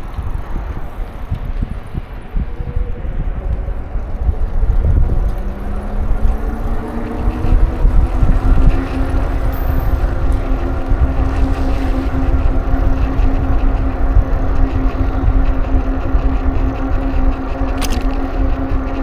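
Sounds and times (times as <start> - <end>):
engine hum: 0.0 - 19.0
wind buffeting microphone: 0.0 - 19.0.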